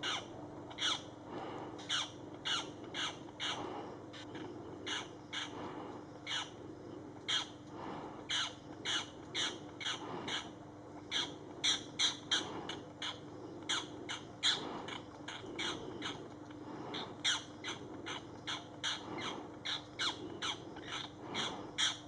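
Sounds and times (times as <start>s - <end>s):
birds giving harsh calls: 0.0s - 1.2s, 1.8s - 5.6s, 6.2s - 6.6s, 7.2s - 7.6s, 8.2s - 22.0s.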